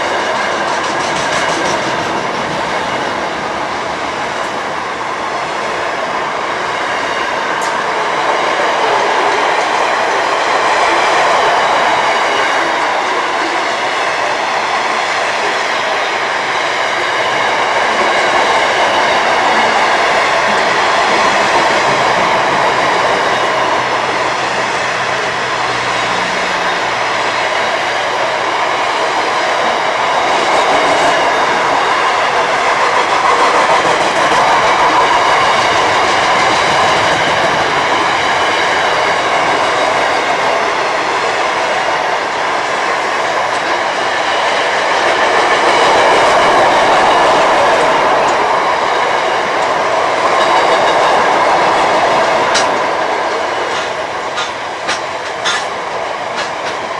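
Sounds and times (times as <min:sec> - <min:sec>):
train wheels rolling on rail: 0:00.0 - 0:56.9.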